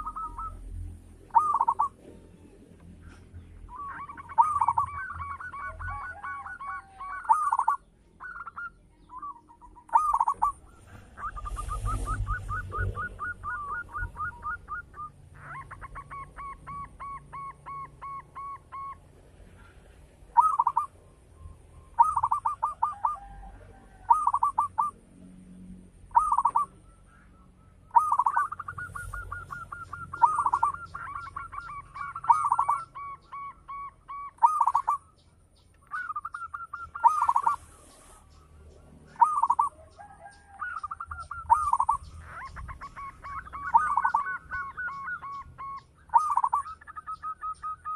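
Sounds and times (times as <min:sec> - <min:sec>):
dove cooing: 0:00.0 - 0:21.0, 0:21.8 - 0:25.0, 0:26.1 - 0:35.2, 0:35.8 - 0:47.9.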